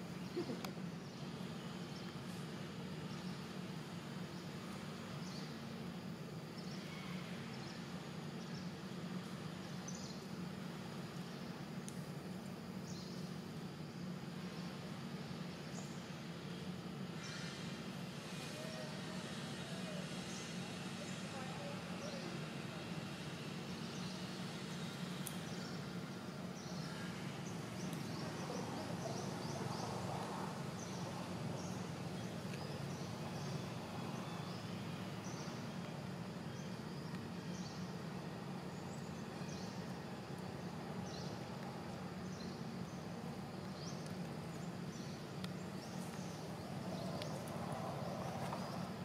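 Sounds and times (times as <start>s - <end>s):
small birds chirping: 0.0s - 49.0s
steady low hum: 0.0s - 49.0s.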